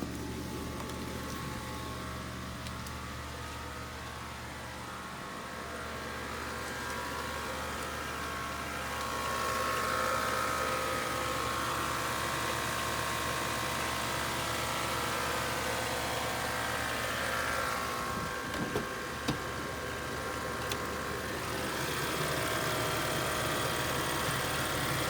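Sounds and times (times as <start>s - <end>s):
buzzing hum under car hood: 0.0s - 25.0s.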